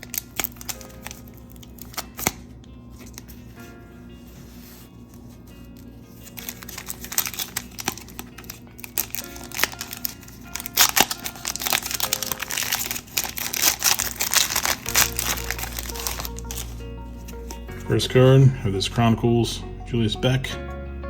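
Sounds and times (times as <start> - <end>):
cellophane wrapper crinkling and tearing: 0.0 - 3.7, 4.4 - 17.8
background music: 0.0 - 21.0.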